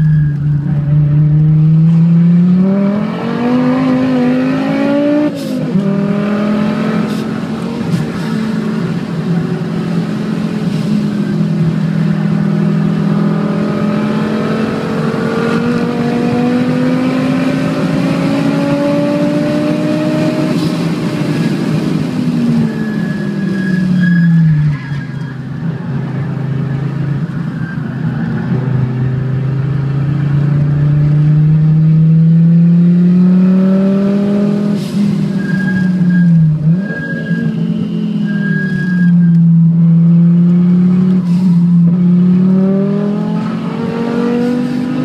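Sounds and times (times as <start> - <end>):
car engine accelerating hard: 0.0 - 24.1, 28.0 - 37.1, 39.3 - 45.0.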